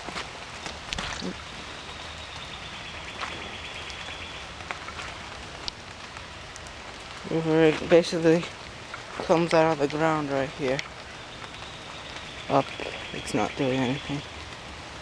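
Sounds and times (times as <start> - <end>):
light rain pattering: 0.0 - 15.0.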